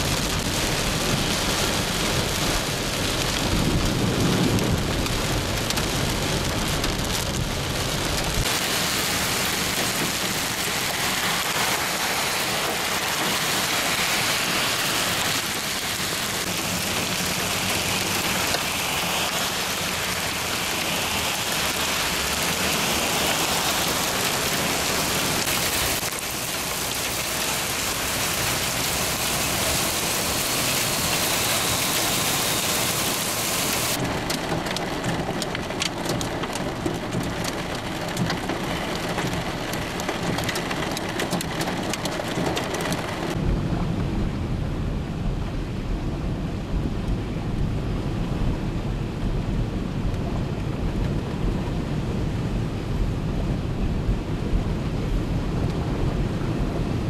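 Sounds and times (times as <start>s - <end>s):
car road rumble: 0.0s - 57.0s
heavy rain and hail hissing: 0.0s - 57.0s.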